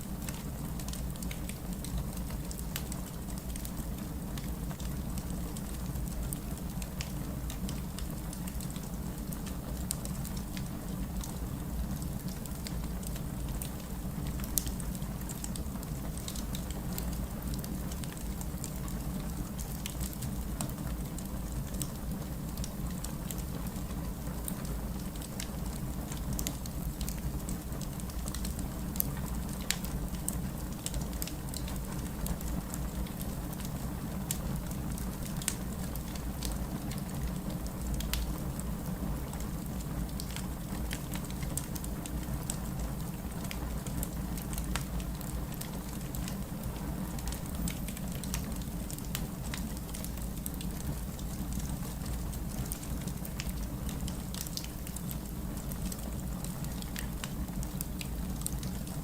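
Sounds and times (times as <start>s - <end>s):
steady rain: 0.0s - 59.0s
wood fire crackling: 0.0s - 59.0s.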